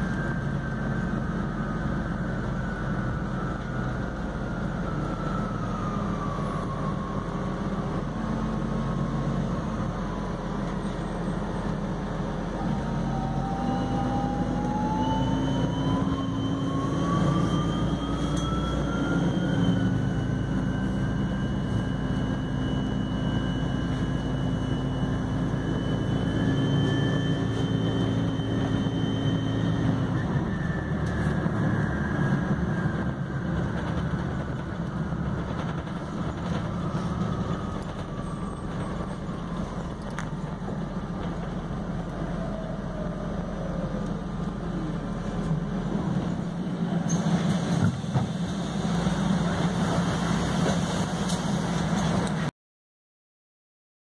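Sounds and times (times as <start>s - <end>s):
hybrid drive whine: 0.0s - 49.8s
bus drive and road rumble: 0.0s - 52.5s.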